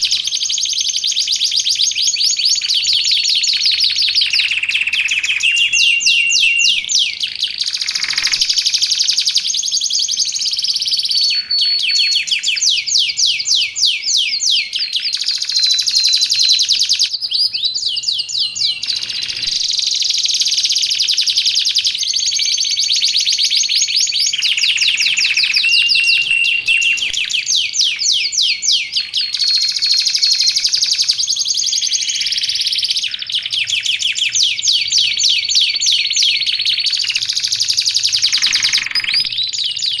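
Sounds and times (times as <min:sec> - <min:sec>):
canary whistled notes: 0:00.0 - 0:32.8
canary trilling song: 0:00.0 - 0:40.0.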